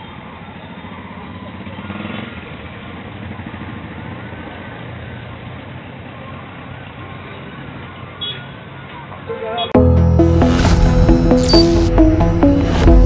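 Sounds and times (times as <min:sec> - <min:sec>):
traffic engines humming: 0:00.0 - 0:13.0.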